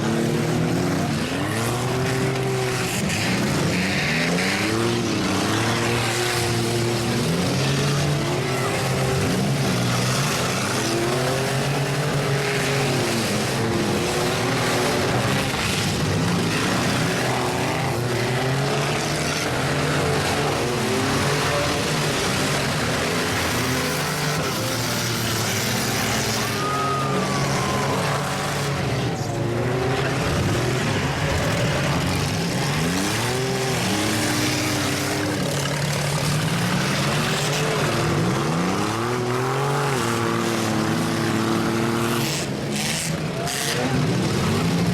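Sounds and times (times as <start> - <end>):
car engines revving: 0.0 - 44.9.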